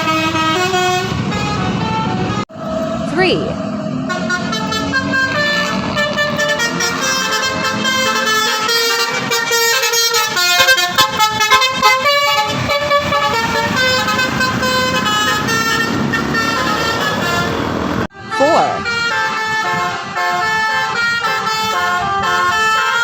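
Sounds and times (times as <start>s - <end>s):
bus engine rumble: 0.0s - 23.0s
multi-tone musical air horn: 0.0s - 23.0s.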